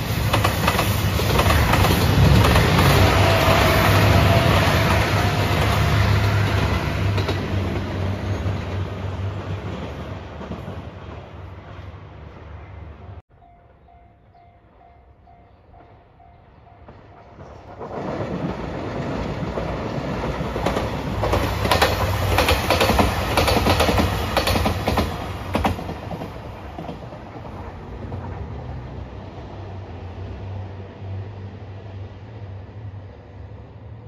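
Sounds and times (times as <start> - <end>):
diesel train engine rumble: 0.0 - 34.0.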